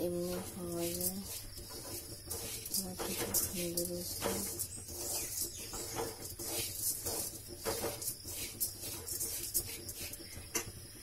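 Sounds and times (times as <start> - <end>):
spoon scraping grains in metal pan: 0.0 - 11.0.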